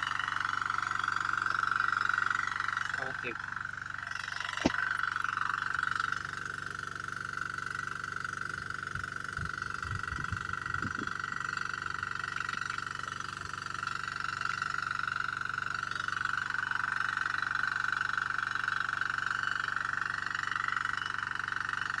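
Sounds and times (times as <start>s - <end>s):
faint low engine hum: 0.0s - 22.0s
water pump high-pitched hiss: 0.0s - 22.0s.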